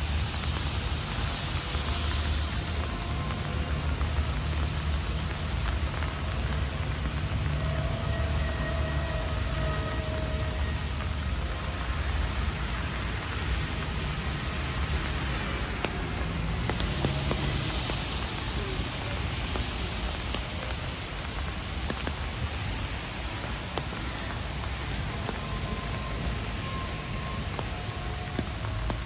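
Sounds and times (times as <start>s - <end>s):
heavy rain hissing: 0.0s - 29.0s
raindrops ticking close by: 0.0s - 29.0s.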